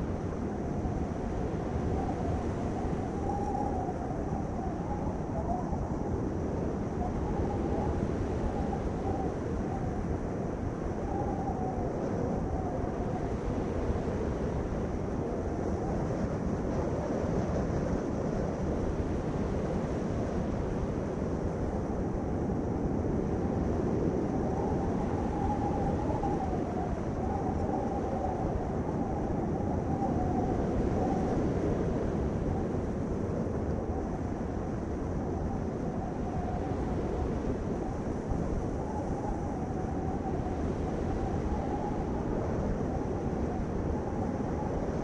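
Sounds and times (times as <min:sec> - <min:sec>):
faint wavering whine: 0:00.0 - 0:45.0.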